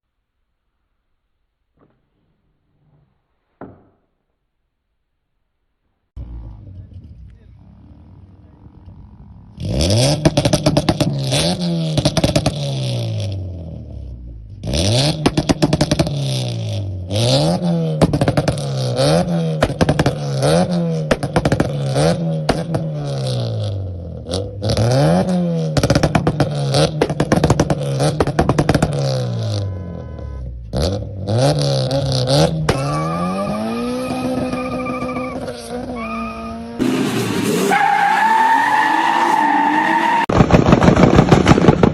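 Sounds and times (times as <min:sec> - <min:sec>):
car engine revving: 0:06.2 - 0:41.9.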